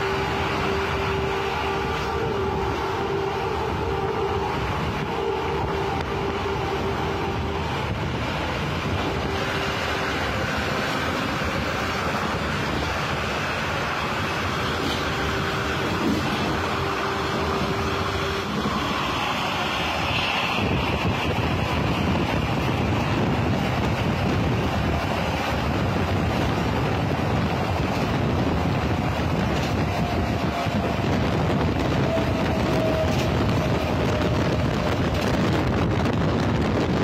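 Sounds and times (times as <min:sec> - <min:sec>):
passenger trains rumbling and rattling: 0:00.0 - 0:37.0.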